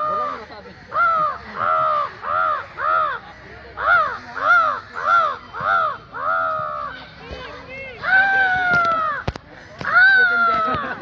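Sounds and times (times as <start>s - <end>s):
crow cawing: 0.0s - 7.1s, 8.0s - 11.0s.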